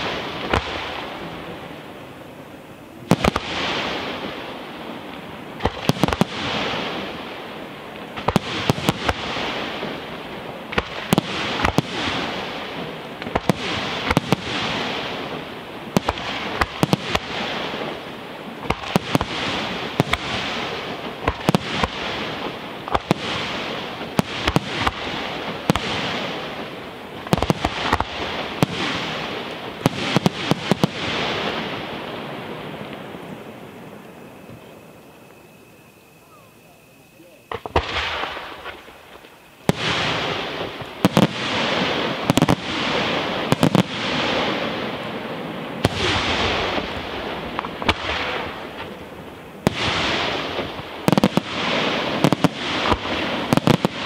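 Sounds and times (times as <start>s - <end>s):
hiss of burning stars: 0.0s - 54.0s
firework shells bursting: 3.1s - 33.8s, 37.4s - 54.0s.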